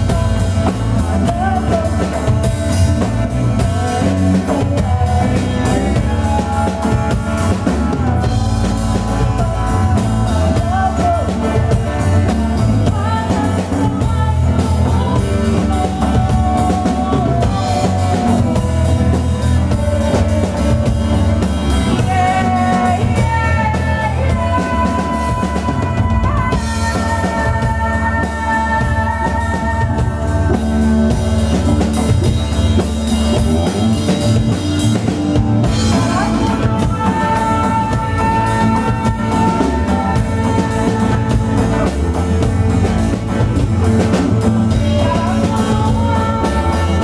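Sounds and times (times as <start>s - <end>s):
women singing: 0.0s - 32.4s, 35.6s - 47.0s
acoustic guitar: 0.0s - 47.0s
drum kit: 0.0s - 47.0s
hand-played frame drum: 0.0s - 47.0s.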